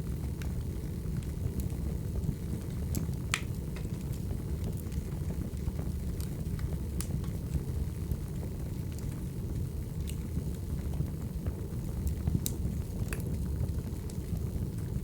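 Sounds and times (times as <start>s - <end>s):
fire crackles and pops: 0.0s - 15.0s
wood fire roaring: 0.0s - 15.0s.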